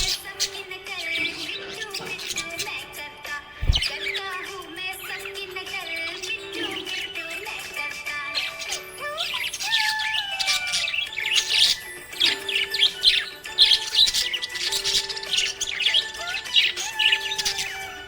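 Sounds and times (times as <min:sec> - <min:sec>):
background music with held notes: 0:00.0 - 0:18.0
parrots chirping and chattering: 0:00.0 - 0:18.0.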